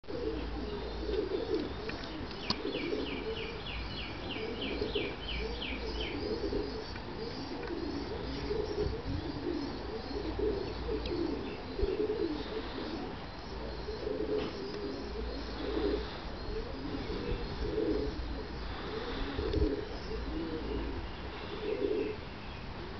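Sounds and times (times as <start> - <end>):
pigeons cooing: 0.0 - 22.9.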